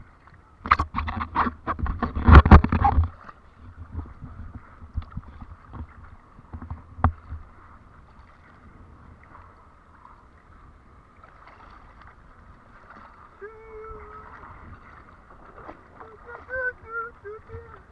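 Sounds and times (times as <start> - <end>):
water splashing and slapping: 0.1 - 17.9.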